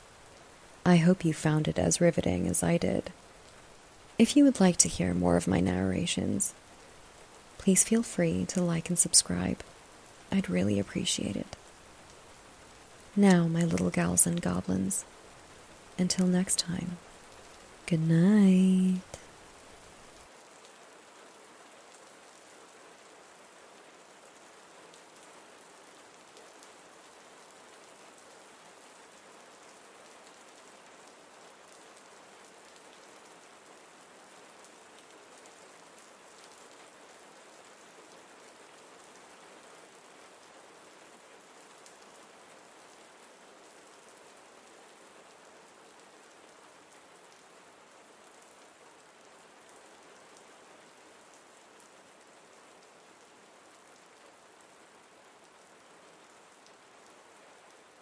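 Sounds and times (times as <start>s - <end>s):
faint steady rain: 0.0s - 58.0s.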